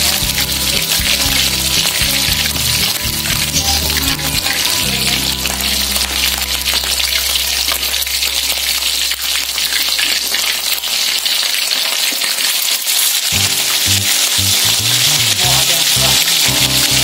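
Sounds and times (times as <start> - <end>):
chicken deep-frying in hot oil: 0.0 - 17.0.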